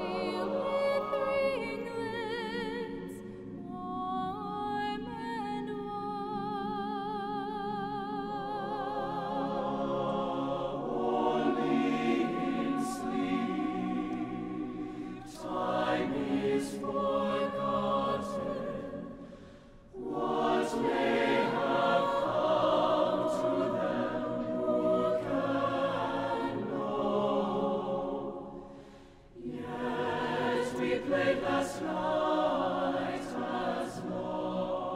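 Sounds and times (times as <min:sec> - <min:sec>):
soprano soloist singing: 0:00.0 - 0:28.4
choir singing a cappella: 0:00.0 - 0:34.9.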